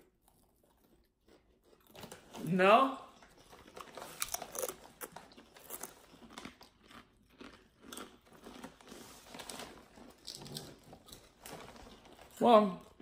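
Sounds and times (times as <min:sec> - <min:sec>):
potato chips crunching: 0:00.0 - 0:13.0.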